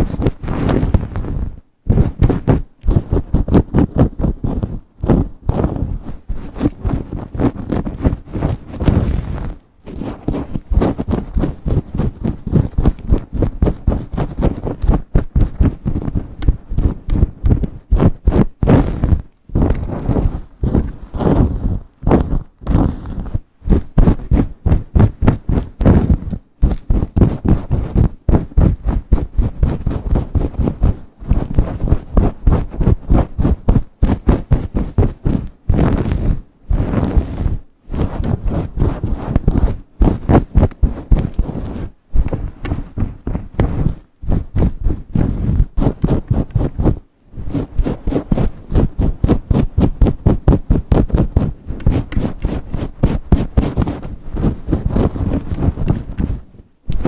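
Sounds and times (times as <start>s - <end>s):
nails scratching through hair: 0.0s - 57.0s.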